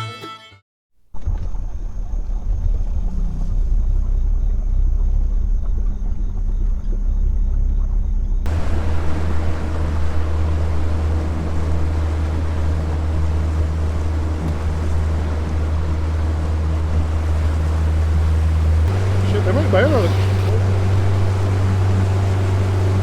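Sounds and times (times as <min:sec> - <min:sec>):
boat motor droning: 0:01.2 - 0:23.0
water rushing past: 0:01.2 - 0:23.0.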